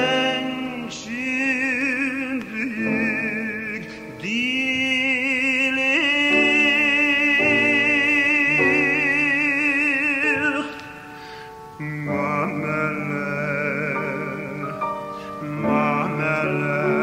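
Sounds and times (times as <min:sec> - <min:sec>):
man singing operatically: 0:00.0 - 0:17.0.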